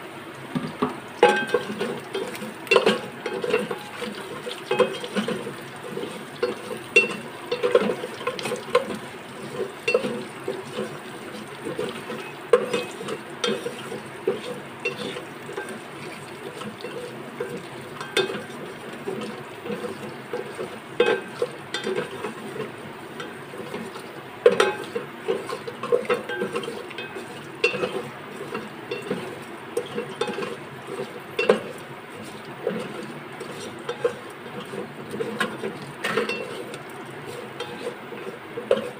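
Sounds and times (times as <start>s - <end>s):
wooden spatula scraping a pot: 1.3s - 38.9s.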